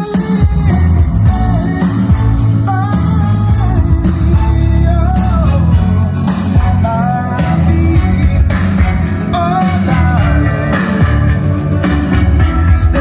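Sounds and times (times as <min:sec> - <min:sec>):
rock song with sung vocal: 0:00.0 - 0:13.0.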